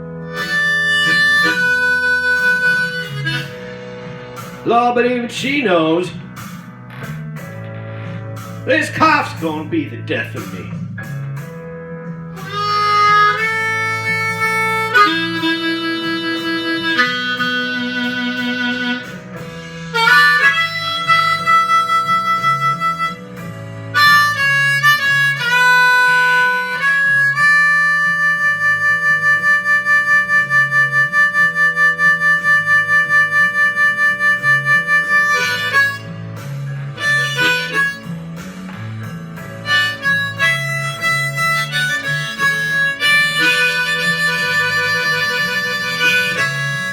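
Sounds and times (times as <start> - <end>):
harmonica solo: 0.0 - 5.4, 12.3 - 46.9
guitar accompaniment: 0.0 - 46.9.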